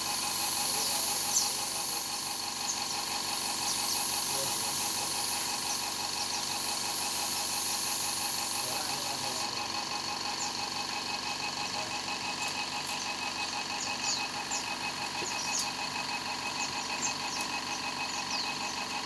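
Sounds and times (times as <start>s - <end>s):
machine humming with pulsing rhythm: 0.0s - 19.0s.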